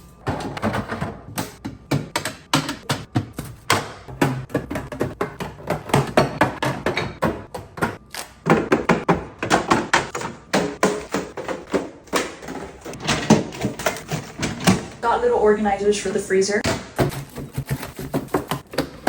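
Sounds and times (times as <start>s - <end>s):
food containers clunking in fridge: 0.2s - 15.1s, 16.6s - 19.0s.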